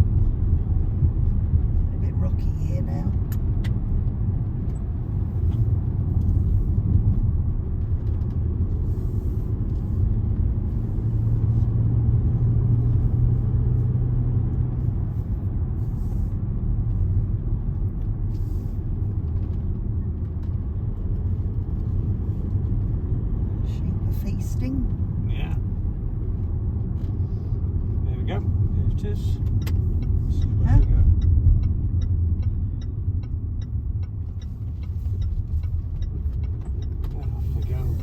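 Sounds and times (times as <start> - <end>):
car engine: 0.0 - 38.0
road rumble: 0.0 - 38.0.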